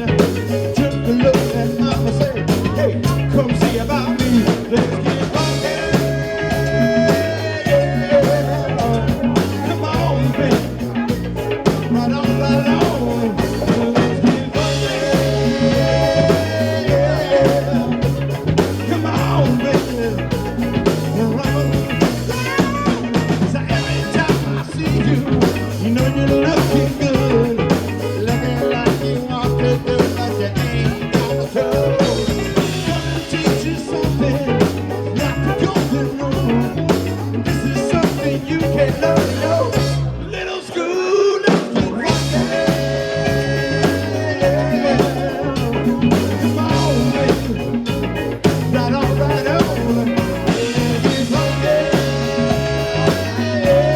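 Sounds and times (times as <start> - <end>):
drum kit: 0.0 - 40.2, 41.4 - 53.9
bass guitar: 0.0 - 40.8, 41.6 - 53.9
electric guitar: 0.0 - 53.9.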